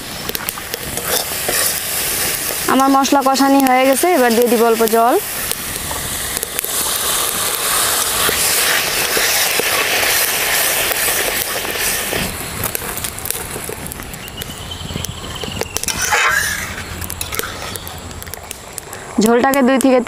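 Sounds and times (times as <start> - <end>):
water hissing in hot pan: 0.0 - 20.0.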